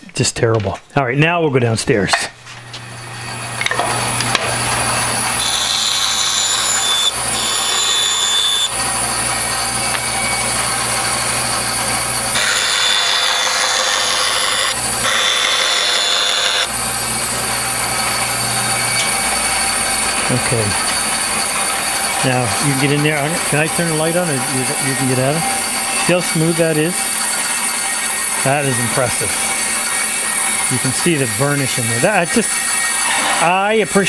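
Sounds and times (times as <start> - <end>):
bandsaw motor hum: 2.6 - 34.0
saw blade cutting wood: 2.6 - 34.0.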